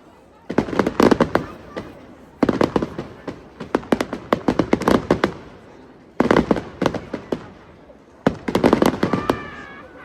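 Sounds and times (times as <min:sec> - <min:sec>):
fireworks bangs and crackles: 0:00.4 - 0:09.9.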